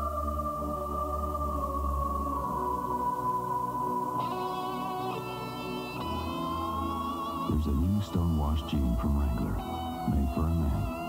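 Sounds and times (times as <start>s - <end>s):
low drone: 0.0s - 11.0s.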